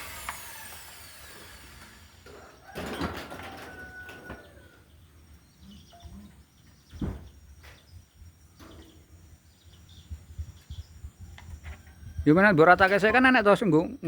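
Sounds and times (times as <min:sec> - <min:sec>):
faint birds chirping: 0:02.2 - 0:14.0.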